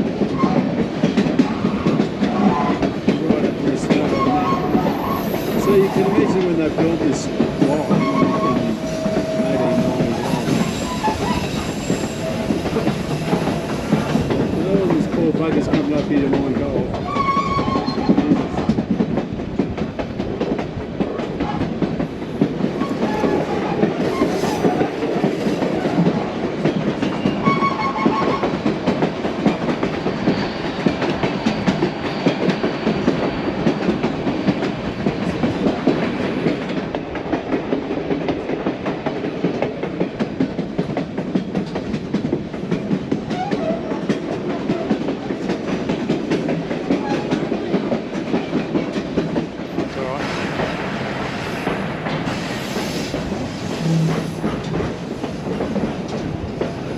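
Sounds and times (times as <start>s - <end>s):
train wheels rumbling on rail: 0.0s - 56.9s
wheels clicking on track: 0.2s - 50.8s.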